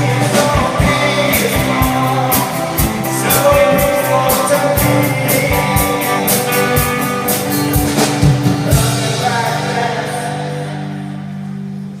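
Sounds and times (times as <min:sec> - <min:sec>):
drum kit playing: 0:00.0 - 0:11.7
electric guitar: 0:00.0 - 0:12.0.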